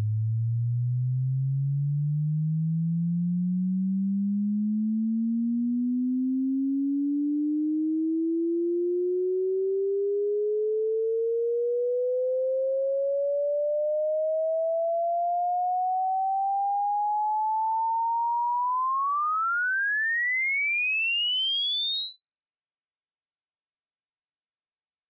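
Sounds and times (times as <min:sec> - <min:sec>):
sine tone sweeping upward: 0:01.0 - 0:25.0.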